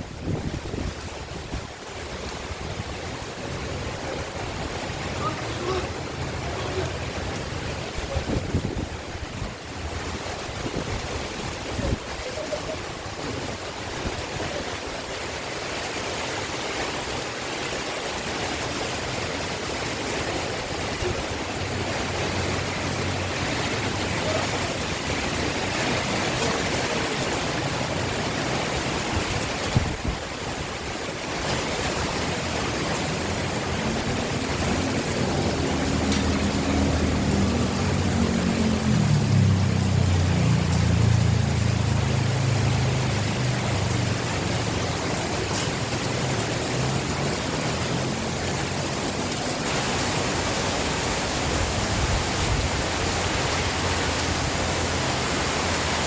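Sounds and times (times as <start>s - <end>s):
gusting wind: 0.0s - 56.0s
heavy rain: 0.0s - 56.0s.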